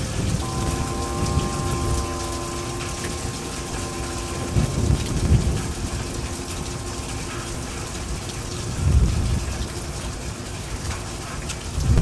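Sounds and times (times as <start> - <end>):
thunder rumble: 0.0 - 11.0
heavy rain: 0.0 - 12.0.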